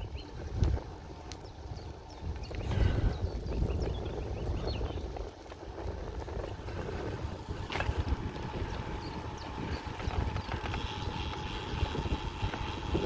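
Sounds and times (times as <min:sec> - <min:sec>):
bike tyre rumble on road: 0:00.0 - 0:13.0
wind rushing over microphone: 0:00.0 - 0:13.0.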